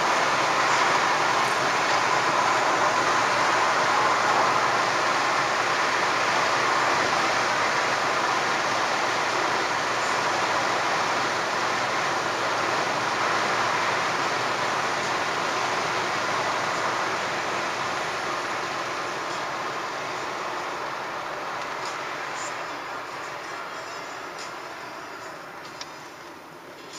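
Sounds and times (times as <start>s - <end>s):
tyre and wind road noise: 0.0s - 26.9s.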